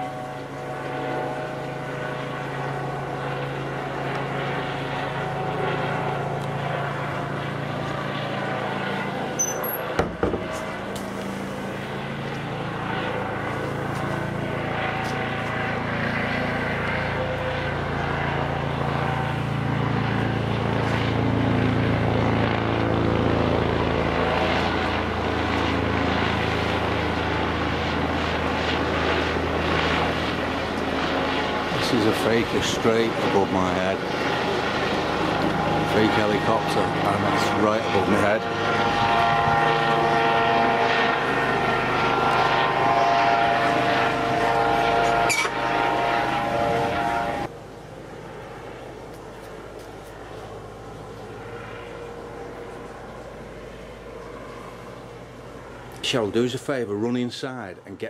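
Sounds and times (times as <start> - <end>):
helicopter engine drone: 0.0 - 58.0.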